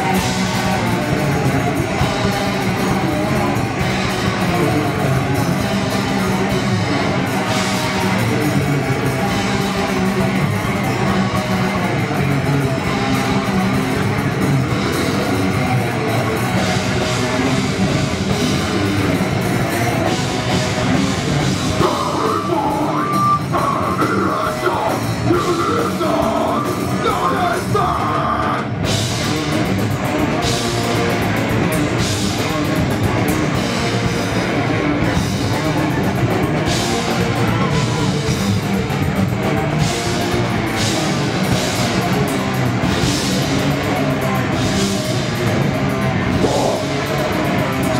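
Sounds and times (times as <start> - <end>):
bass guitar: 0.0 - 47.9
distorted electric guitars: 0.0 - 47.9
drum kit: 0.0 - 47.9.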